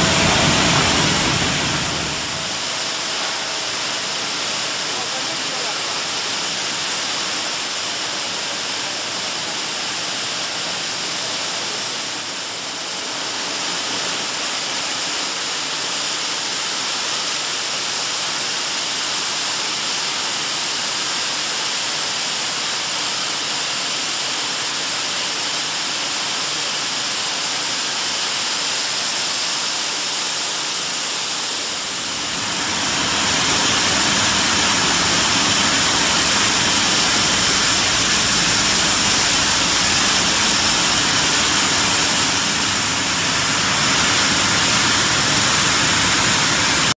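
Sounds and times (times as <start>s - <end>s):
recycling machinery hiss and hum: 0.0s - 46.9s.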